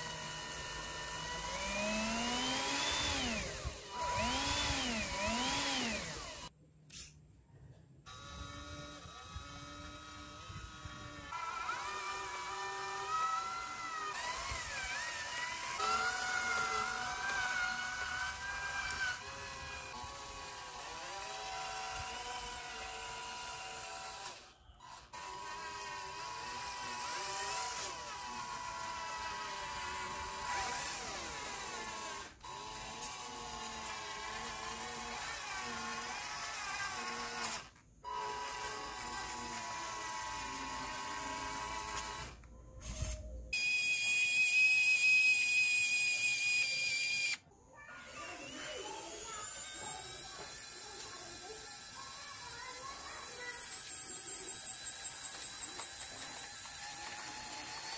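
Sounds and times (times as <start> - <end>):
electric motor whining: 0.0 - 6.5, 8.1 - 47.4, 48.0 - 57.9.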